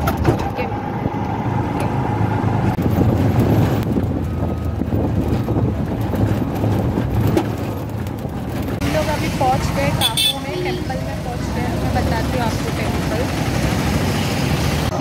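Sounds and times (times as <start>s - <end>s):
road and wind rumble: 0.0s - 15.0s.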